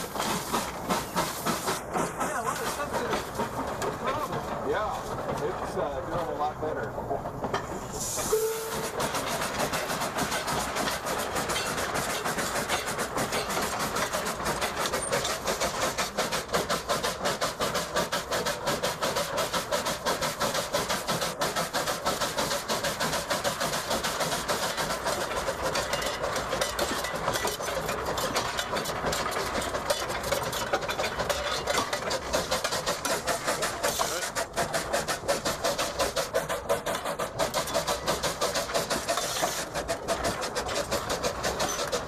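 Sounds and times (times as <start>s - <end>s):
locomotive running gear clatter: 0.0s - 42.0s
steam hissing: 0.0s - 42.0s.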